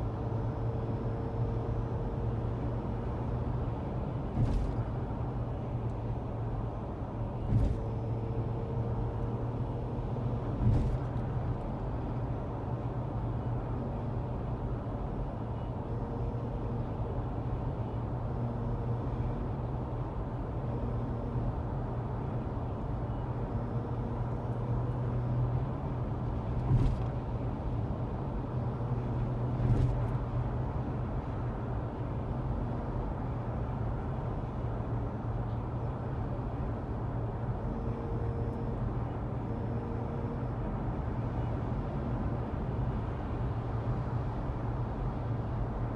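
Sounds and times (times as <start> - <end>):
car driving drone: 0.0 - 45.9.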